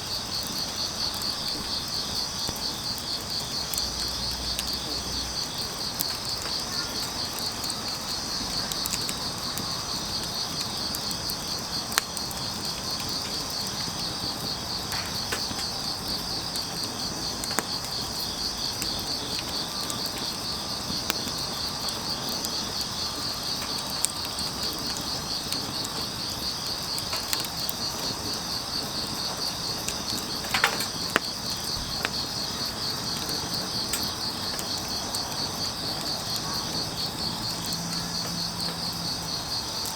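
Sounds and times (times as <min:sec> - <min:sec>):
crickets chirping: 0:00.0 - 0:39.9
firewood crackling: 0:00.0 - 0:39.9.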